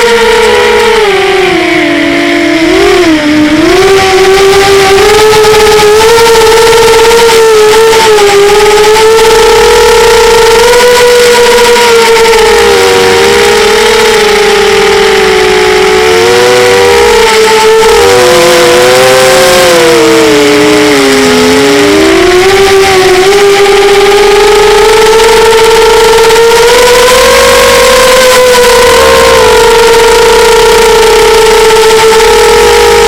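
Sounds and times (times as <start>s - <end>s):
model airplane engine buzzing: 0.0s - 33.0s
second engine tone: 0.0s - 33.0s.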